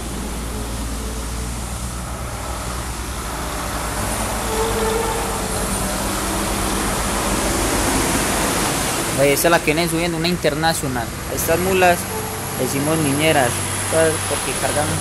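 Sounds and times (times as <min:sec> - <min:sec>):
truck diesel engine: 0:00.0 - 0:15.0
tyres hissing on wet pavement: 0:00.0 - 0:15.0.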